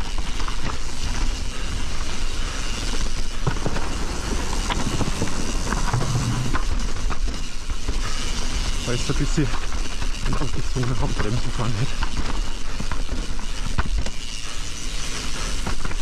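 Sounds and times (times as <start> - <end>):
bike rattling and knocking: 0.0 - 16.0
bike tyre noise on trail: 0.0 - 16.0.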